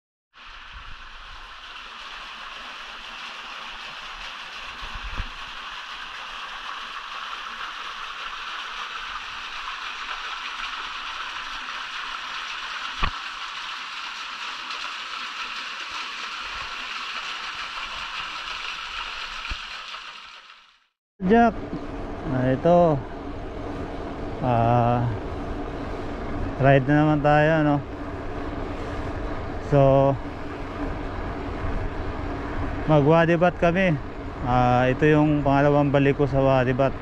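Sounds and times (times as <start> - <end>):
flowing water: 0.3 - 21.0, 23.6 - 37.0.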